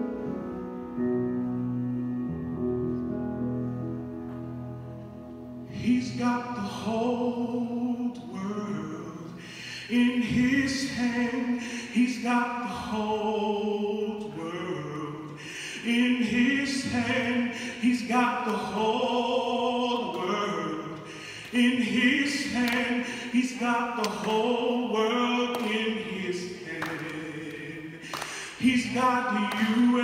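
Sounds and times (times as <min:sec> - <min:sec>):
choir and orchestra: 0:05.7 - 0:30.0.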